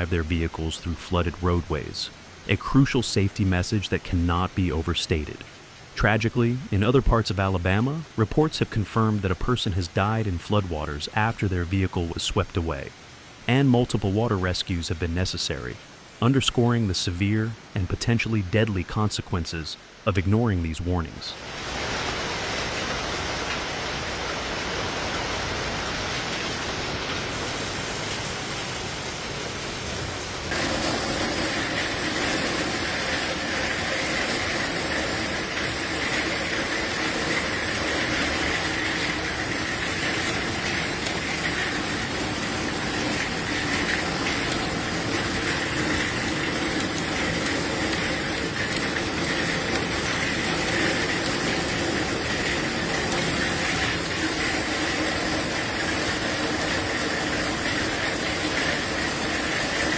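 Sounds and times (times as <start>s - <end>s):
heavy downpour rushing: 0.0s - 59.9s.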